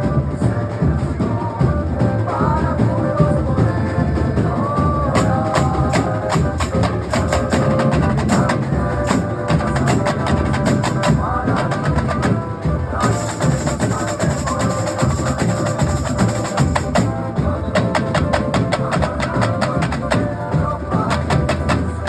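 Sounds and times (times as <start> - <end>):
bass drums: 0.0 - 22.0
drums: 0.0 - 22.0.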